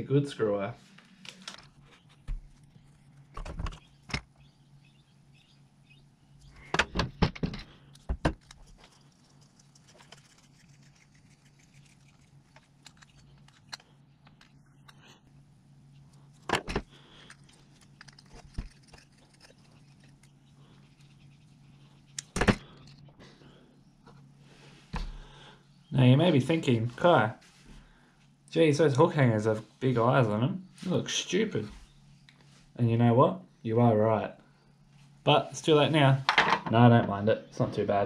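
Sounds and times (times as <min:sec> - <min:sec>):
low hum: 0:00.0 - 0:35.6.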